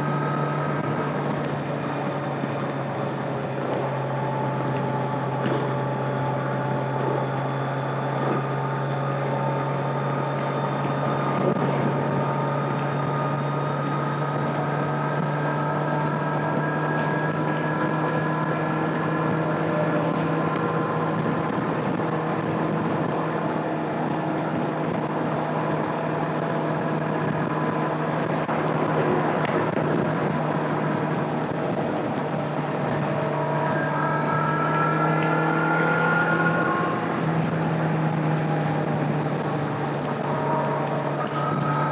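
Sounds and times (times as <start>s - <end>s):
wind rushing over microphone: 0.0s - 34.0s
motorcycle engine cruising: 0.0s - 41.9s.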